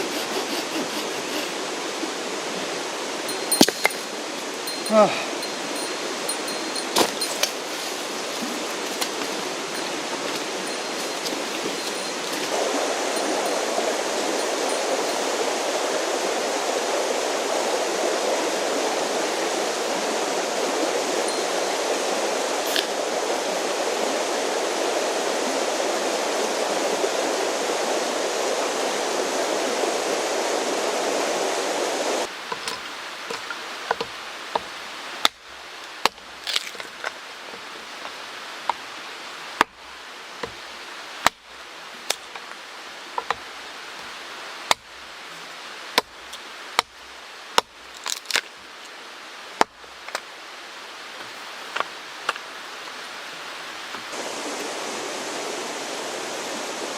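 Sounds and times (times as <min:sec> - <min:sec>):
mountain stream flowing: 0:00.0 - 0:56.9.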